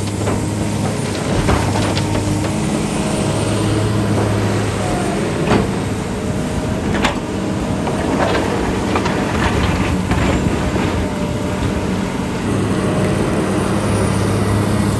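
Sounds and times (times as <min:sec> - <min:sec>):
excavator diesel engine running: 0:00.0 - 0:14.9.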